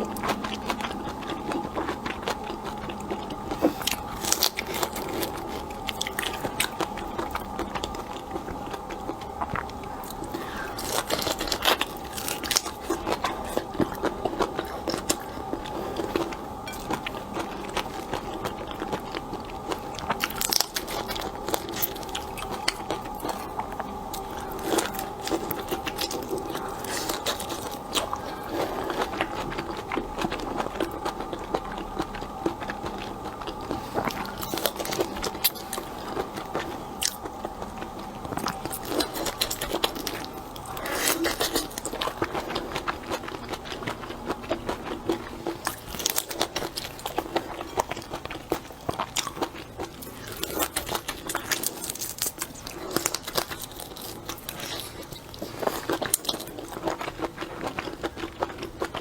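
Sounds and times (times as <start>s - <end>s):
chewing and biting food: 0.0s - 59.0s.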